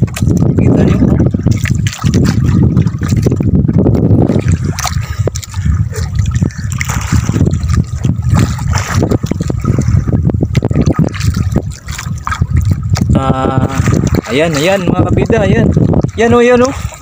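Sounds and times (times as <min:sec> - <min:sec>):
low rumble: 0:00.0 - 0:16.9
knocks and splats: 0:00.0 - 0:17.0
water splashing and sloshing: 0:00.0 - 0:17.0.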